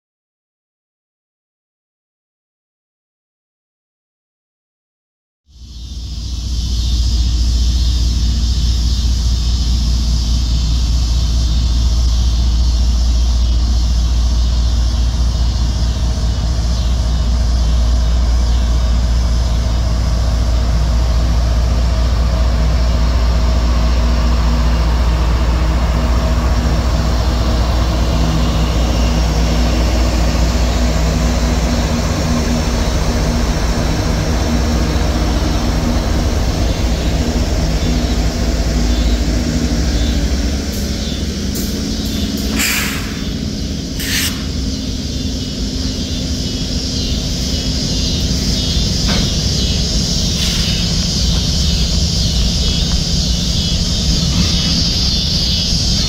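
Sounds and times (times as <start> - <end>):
locomotive engine rumble: 5.6 - 56.0
wheels hissing on rail: 5.6 - 56.0.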